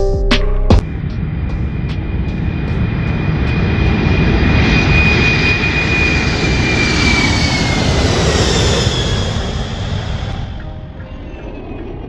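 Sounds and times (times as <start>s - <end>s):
jet engines at takeoff: 0.8s - 12.0s.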